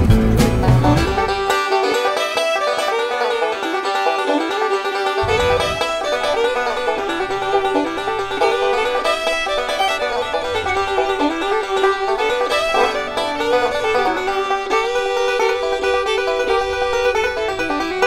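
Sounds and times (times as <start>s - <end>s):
plucked string instrumental music: 0.0s - 18.0s.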